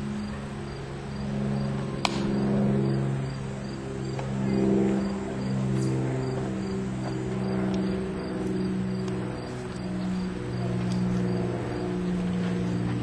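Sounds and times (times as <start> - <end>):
cricket chirping: 0.0 - 12.2
low droning hum: 0.0 - 13.0.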